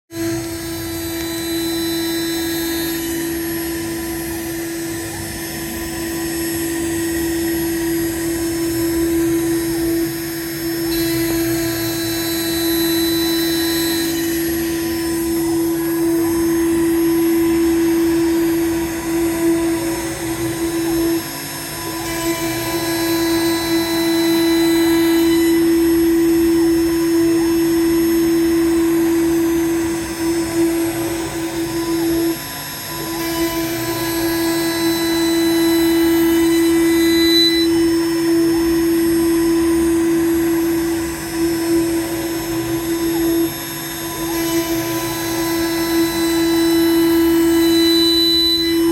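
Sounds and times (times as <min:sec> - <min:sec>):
cnc router milling: 0:00.1 - 0:48.9.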